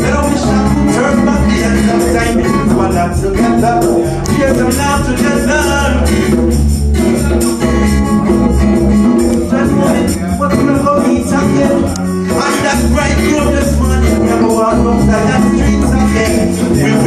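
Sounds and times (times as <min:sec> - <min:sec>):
reggae music: 0:00.0 - 0:17.0.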